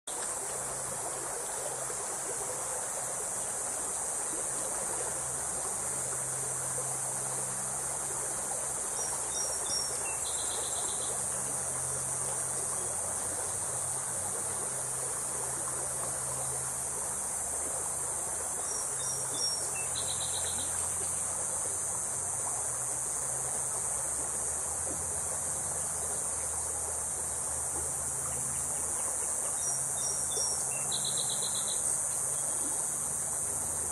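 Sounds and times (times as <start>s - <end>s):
insects buzzing chorus: 0.1s - 33.9s.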